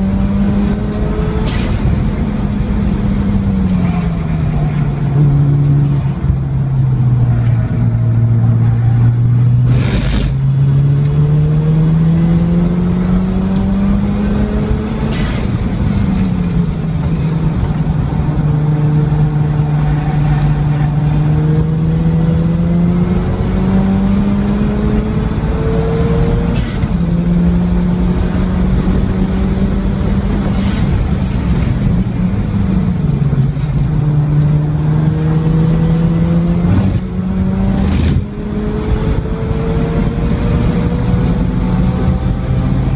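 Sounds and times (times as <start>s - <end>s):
rotary engine at full throttle: 0.0s - 42.9s
wind rush and tyre noise: 0.0s - 42.9s.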